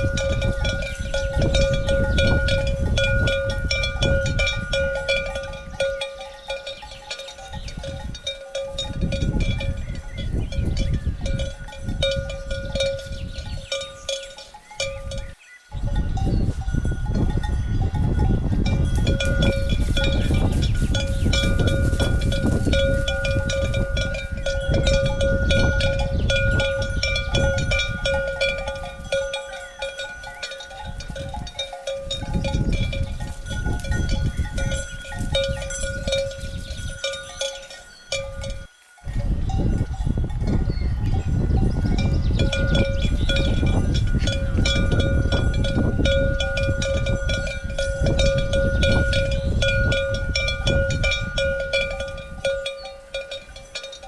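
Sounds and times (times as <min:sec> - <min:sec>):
cowbells clanking: 0:00.0 - 0:54.0.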